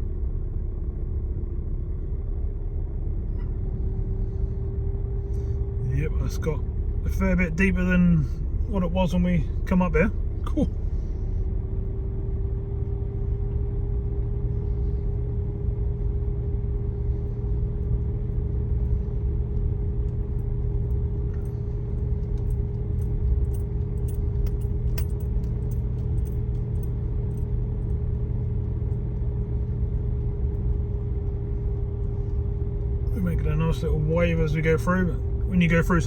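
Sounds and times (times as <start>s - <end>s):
car engine rumbling: 0.0s - 36.0s.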